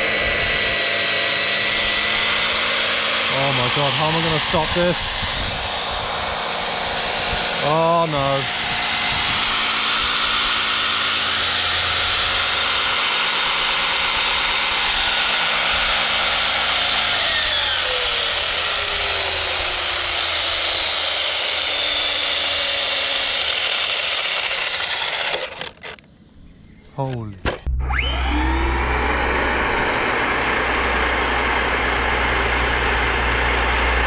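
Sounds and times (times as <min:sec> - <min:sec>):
electric motor whine and gear noise: 0:00.0 - 0:26.7, 0:27.6 - 0:34.0.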